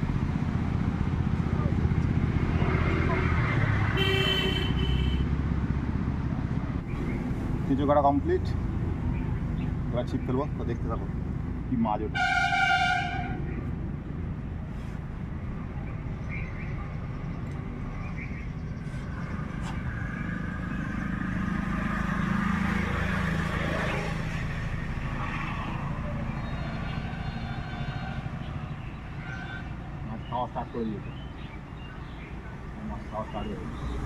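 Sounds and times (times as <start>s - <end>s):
vehicle passing: 0.0s - 16.2s, 16.8s - 34.0s
road traffic rumble: 0.0s - 34.0s.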